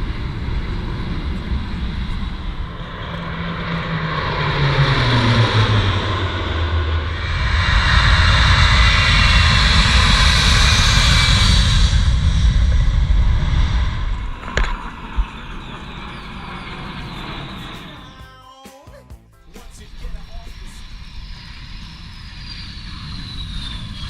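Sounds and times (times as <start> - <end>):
aircraft flying past: 0.0 - 18.2, 19.4 - 24.0.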